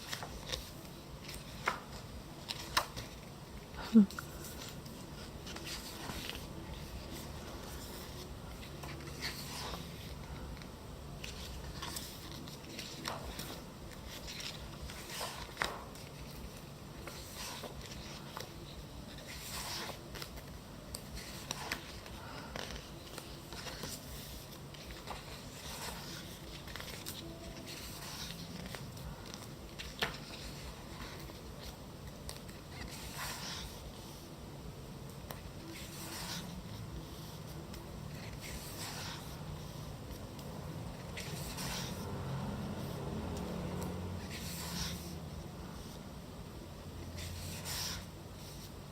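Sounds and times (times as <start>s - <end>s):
paper pages rustling: 0.0s - 34.3s, 35.1s - 46.1s, 47.0s - 48.9s.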